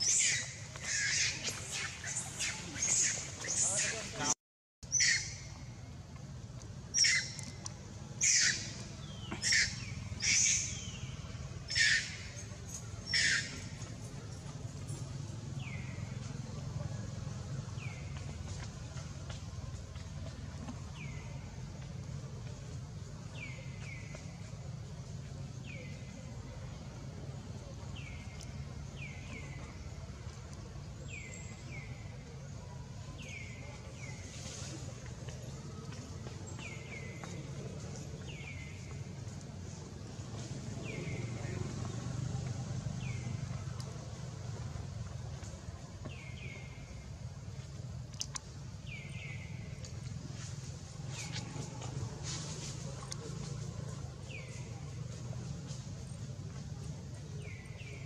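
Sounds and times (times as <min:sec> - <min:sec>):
low outdoor rumble: 0:05.2 - 0:58.0.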